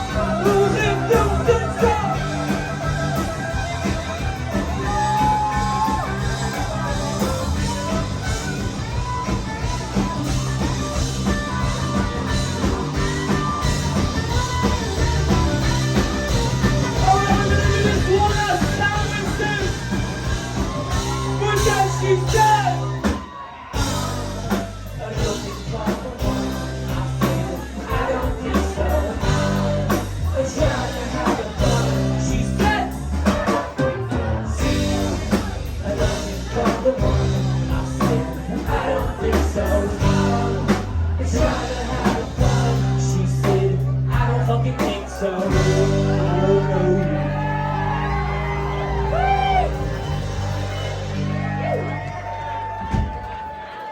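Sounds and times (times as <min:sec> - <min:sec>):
drum kit: 0:00.0 - 0:53.8
guitars: 0:00.0 - 0:53.8
bass guitar: 0:00.0 - 0:53.9.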